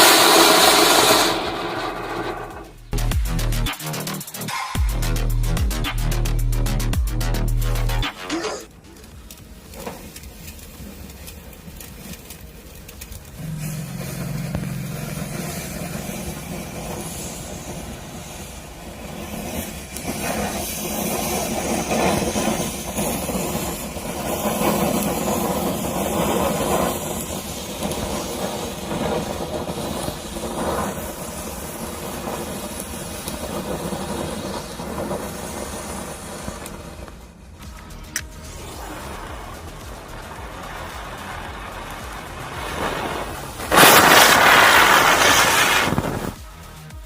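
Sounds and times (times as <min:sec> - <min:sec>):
firework rushing hiss: 0:00.0 - 0:47.0.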